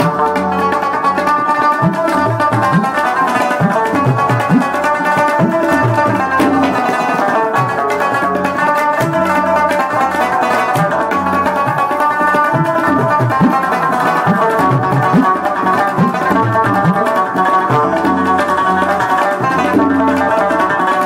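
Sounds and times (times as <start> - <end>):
plucked rubab runs: 0.0 - 21.0
tabla strokes: 0.0 - 21.0.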